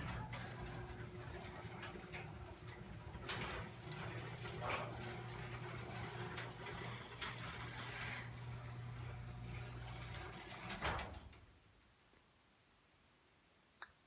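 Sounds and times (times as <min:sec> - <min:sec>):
garage door opener clicks: 0:00.0 - 0:11.5
garage door motor hum: 0:00.0 - 0:11.6.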